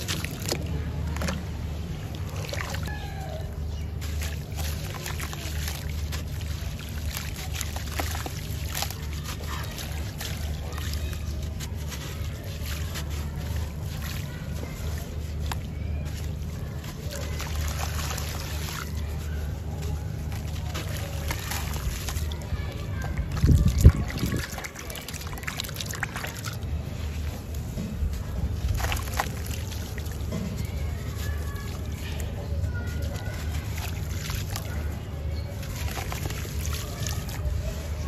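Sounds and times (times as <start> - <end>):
sand and cement crumbling: 0.0 - 38.0
water sloshing and splashing: 0.0 - 38.0.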